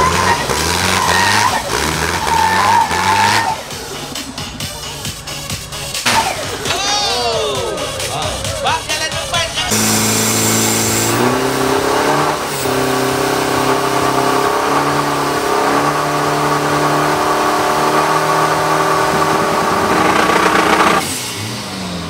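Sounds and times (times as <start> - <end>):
diesel truck engine revving: 0.0 - 6.8, 7.7 - 22.0.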